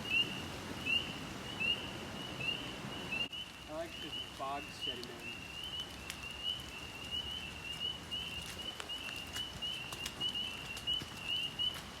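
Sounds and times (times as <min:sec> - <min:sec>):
frogs peeping chorus: 0:00.0 - 0:11.8.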